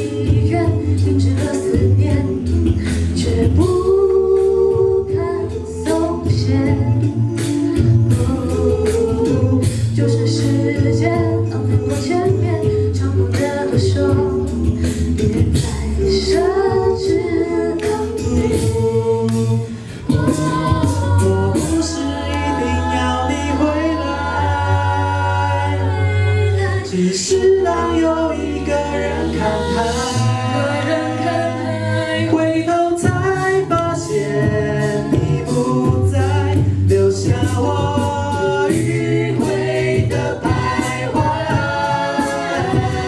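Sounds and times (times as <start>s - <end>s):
a cappella choir singing: 0.0s - 43.0s.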